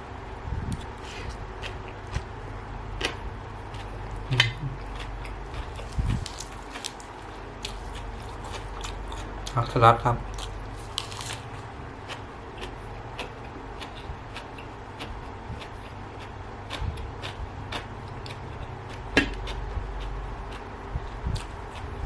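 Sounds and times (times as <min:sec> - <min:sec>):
low background hum: 0:00.0 - 0:22.0
person chewing crunchy food: 0:00.7 - 0:22.0.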